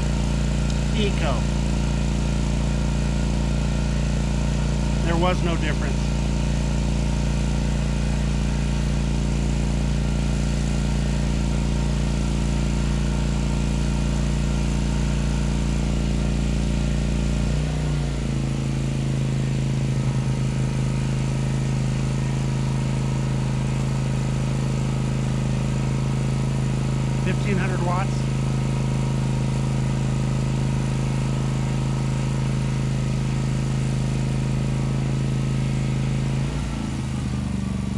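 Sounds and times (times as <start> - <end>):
generator engine running: 0.0 - 37.9.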